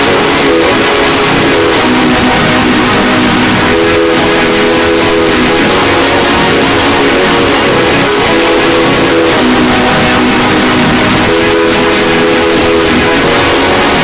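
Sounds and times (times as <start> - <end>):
harsh overdriven electronic noise: 0.0 - 14.0
low steady electronic tones: 0.0 - 14.0.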